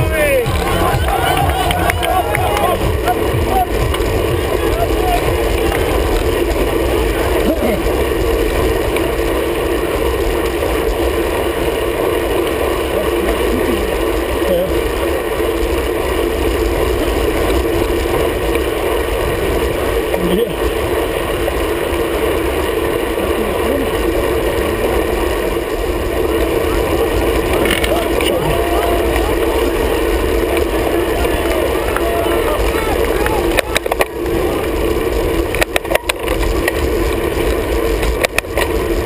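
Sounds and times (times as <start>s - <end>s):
bicycle road noise: 0.0s - 39.0s.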